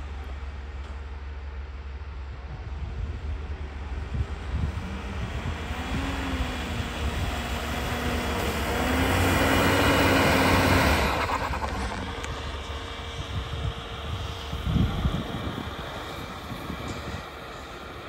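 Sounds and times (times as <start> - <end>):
vehicle engine under load: 0.0 - 18.0
rushing noise: 3.3 - 18.0.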